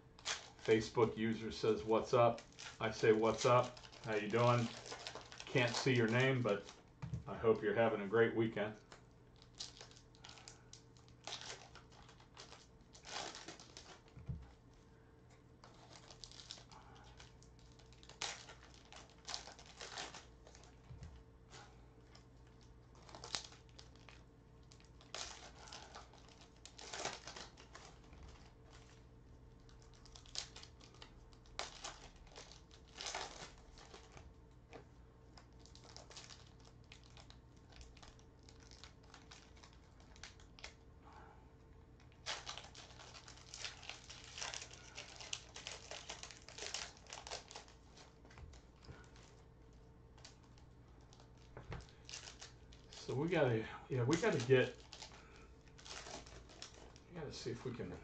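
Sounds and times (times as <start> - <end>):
faint steady hum: 0.0 - 58.0
foil wrappers crinkling: 0.1 - 14.7, 15.6 - 40.8, 42.0 - 58.0.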